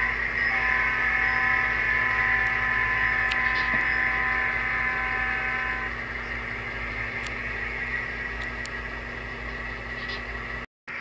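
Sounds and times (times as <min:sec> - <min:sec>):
model train motor whine: 0:00.0 - 0:11.0
steady hum: 0:00.0 - 0:11.0.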